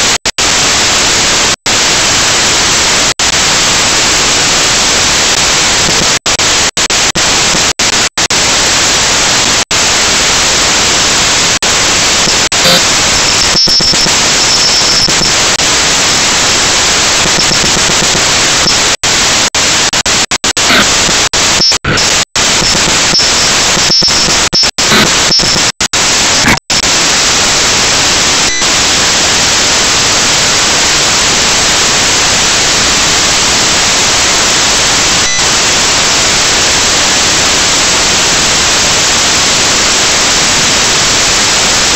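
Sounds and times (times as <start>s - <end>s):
static hiss: 0.0s - 41.9s.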